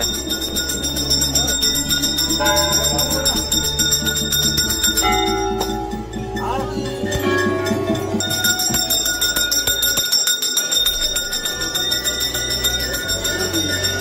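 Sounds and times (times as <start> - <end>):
music: 0.0 - 14.0
temple bells ringing: 0.0 - 14.0.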